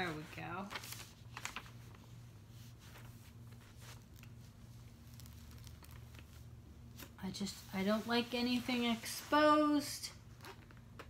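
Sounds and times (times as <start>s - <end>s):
paper sheet rustling: 0.0s - 9.9s
steady low hum: 0.0s - 11.0s.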